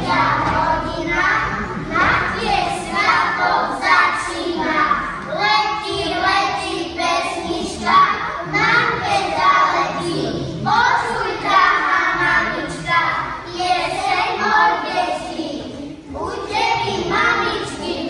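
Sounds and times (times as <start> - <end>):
children singing together: 0.0 - 18.0.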